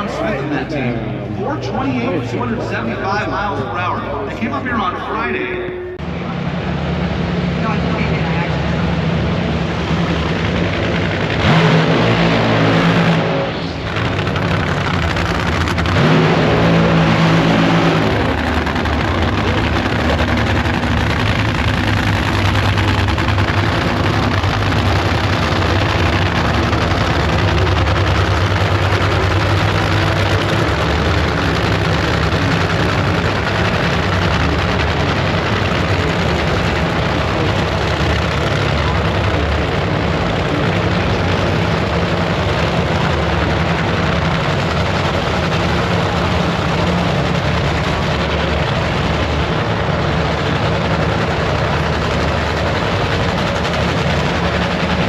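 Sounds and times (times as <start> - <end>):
drag racing car engine: 0.0 - 55.0.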